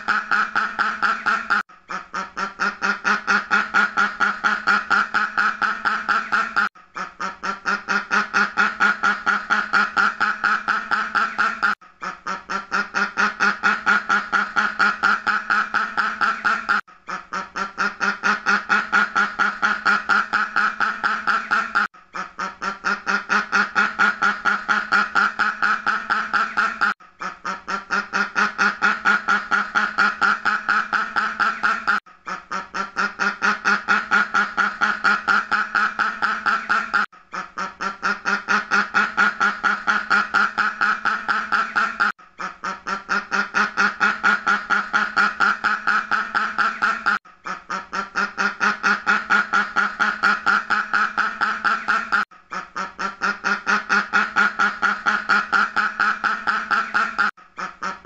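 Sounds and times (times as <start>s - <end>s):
duck quacking: 0.0s - 58.0s.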